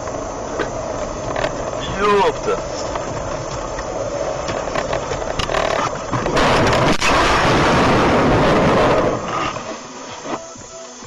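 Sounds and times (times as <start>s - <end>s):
car collision crunching: 0.0s - 10.9s.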